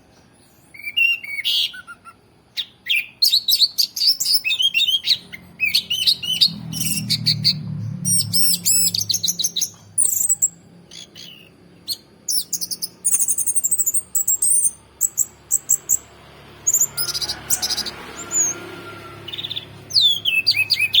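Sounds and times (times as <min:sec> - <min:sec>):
thrush singing chirps and trills: 0:00.0 - 0:21.0.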